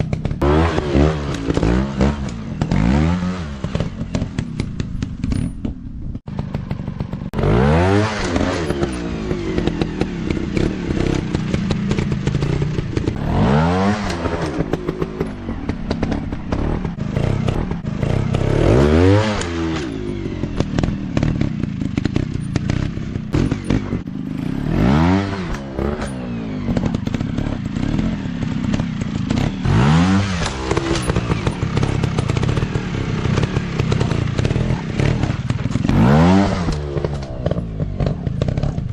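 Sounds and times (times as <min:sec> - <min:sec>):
motorbike engines revving: 0:00.0 - 0:38.9.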